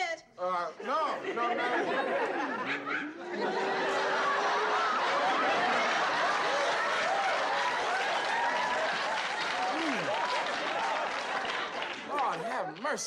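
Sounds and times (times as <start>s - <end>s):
audience laughing and hooting: 1.2s - 12.1s.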